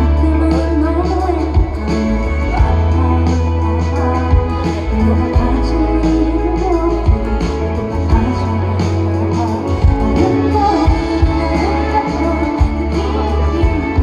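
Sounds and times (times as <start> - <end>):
guitar: 0.0 - 14.0
heavy bass: 0.0 - 14.0
woman singing: 0.0 - 14.0.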